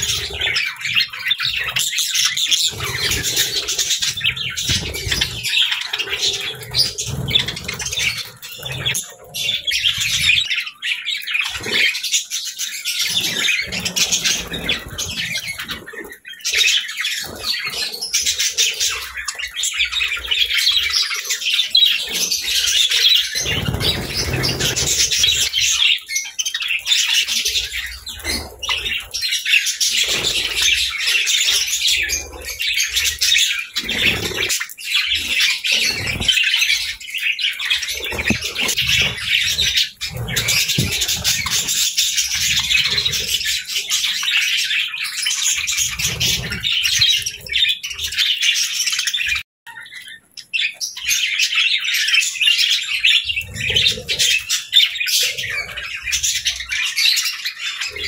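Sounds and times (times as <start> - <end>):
budgerigars chirping and squawking: 0.0 - 58.0.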